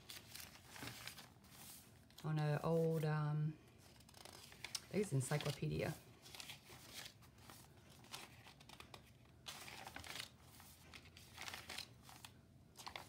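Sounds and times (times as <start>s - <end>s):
paper pages rustling: 0.0s - 2.2s, 3.8s - 13.0s.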